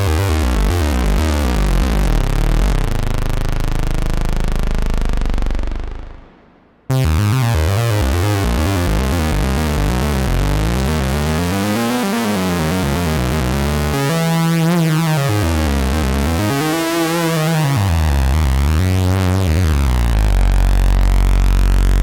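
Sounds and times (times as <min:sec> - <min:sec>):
deep analog synthesizer line: 0:00.0 - 0:22.0.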